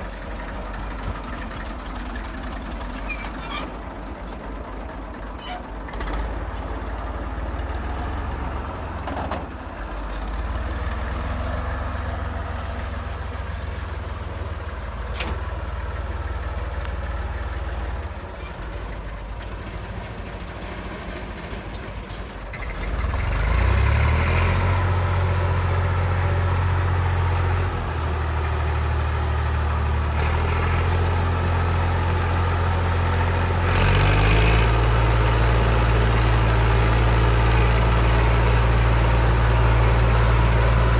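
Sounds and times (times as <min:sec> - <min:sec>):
tractor diesel engine revving: 0:00.0 - 0:40.9.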